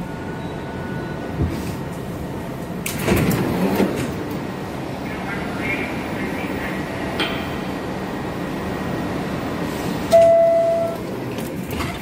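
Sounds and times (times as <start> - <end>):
subway car hum: 0.0 - 12.0.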